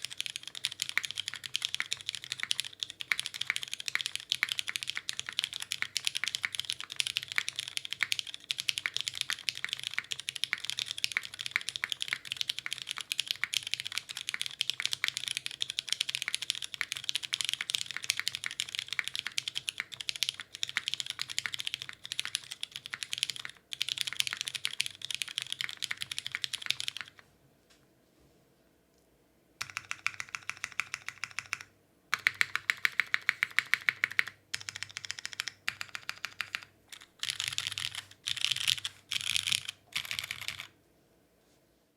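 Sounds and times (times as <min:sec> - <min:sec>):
mechanical keyboard typing: 0:00.0 - 0:27.2, 0:29.6 - 0:40.7.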